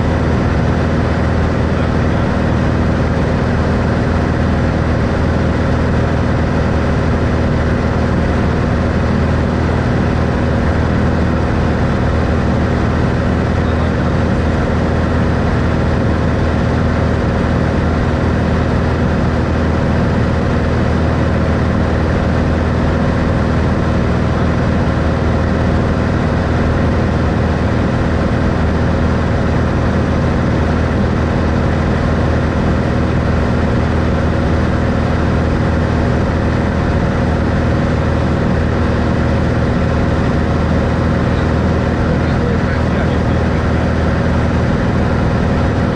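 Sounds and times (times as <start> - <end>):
propeller plane engine drone: 0.0 - 45.9.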